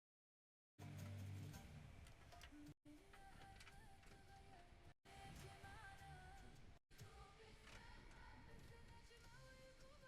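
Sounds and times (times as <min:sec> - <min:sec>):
faint background music: 0:00.8 - 0:10.0.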